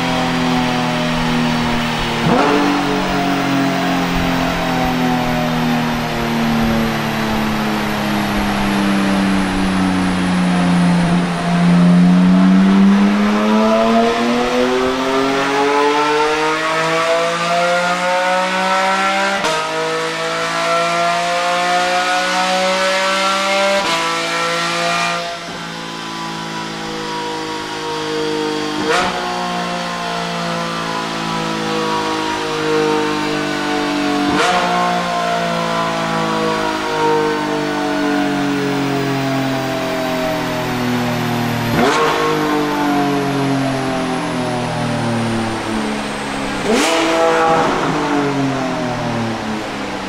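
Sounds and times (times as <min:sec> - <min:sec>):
car engine revving hard: 0:00.3 - 0:25.8, 0:28.5 - 0:33.0, 0:34.2 - 0:37.5, 0:38.8 - 0:50.0.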